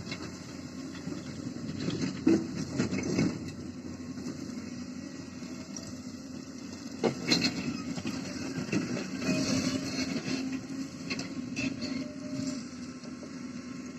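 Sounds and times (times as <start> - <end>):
excavator diesel engines: 0.0 - 13.9
rattling and scraping of earth: 0.0 - 13.9.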